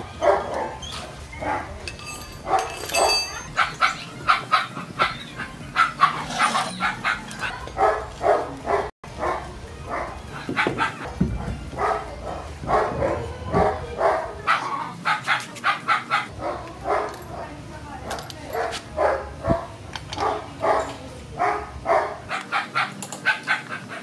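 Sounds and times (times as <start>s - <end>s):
dog barking: 0.2s - 0.8s, 1.4s - 1.7s, 2.5s - 11.2s, 11.8s - 17.5s, 18.5s - 24.0s.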